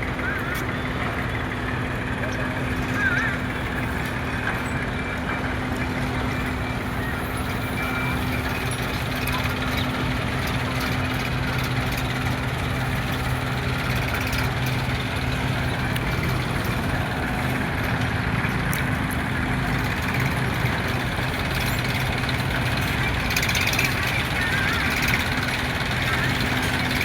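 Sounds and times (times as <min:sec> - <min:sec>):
tractor diesel engine idling: 0:00.0 - 0:27.0.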